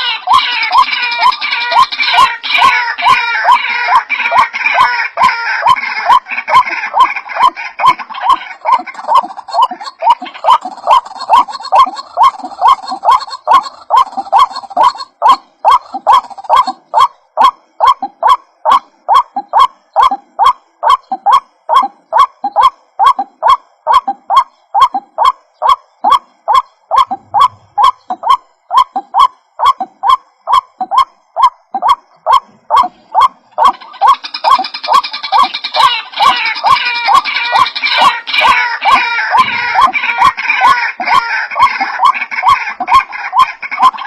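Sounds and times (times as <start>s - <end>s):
waterhen honking calls: 0.0s - 44.0s.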